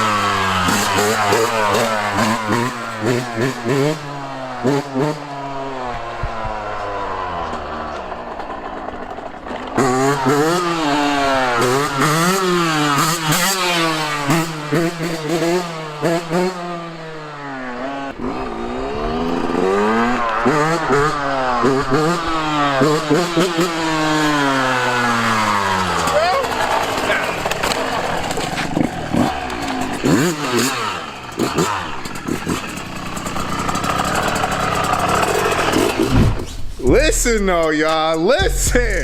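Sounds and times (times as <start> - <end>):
dirt bike engine revving: 0.0 - 37.2.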